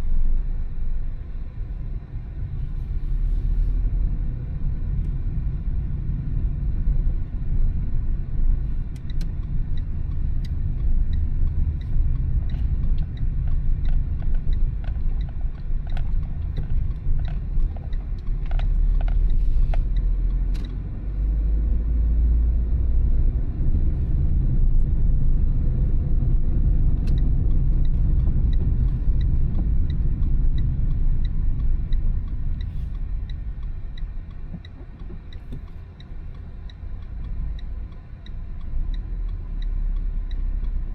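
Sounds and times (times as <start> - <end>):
road and engine rumble: 0.0 - 40.9
turn signal ticking: 3.9 - 40.9.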